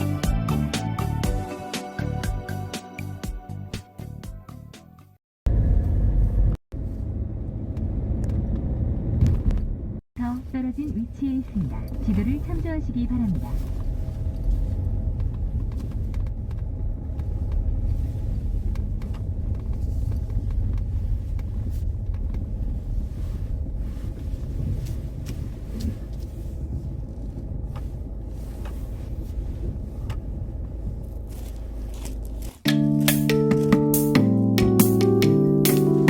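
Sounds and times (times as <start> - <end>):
car engine and road rumble: 4.0 - 36.0.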